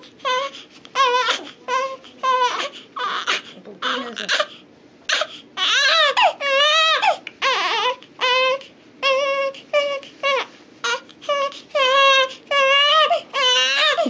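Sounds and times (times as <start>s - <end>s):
newborn baby crying: 0.0s - 14.0s.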